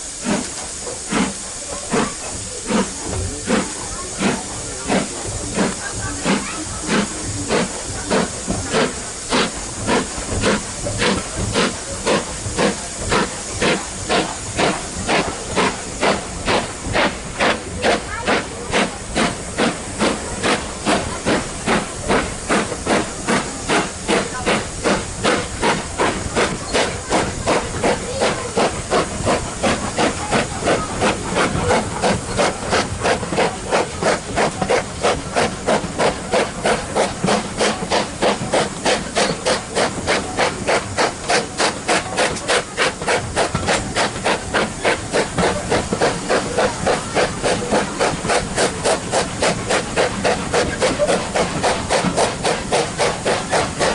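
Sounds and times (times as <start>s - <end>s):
steam hissing: 0.0s - 53.9s
steam locomotive chuffing: 0.0s - 53.9s.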